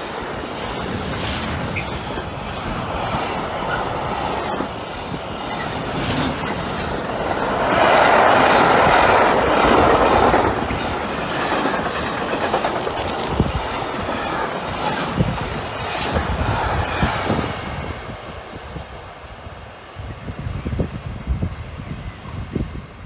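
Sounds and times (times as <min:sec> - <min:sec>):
freight train wheels on rails: 0:00.0 - 0:23.0.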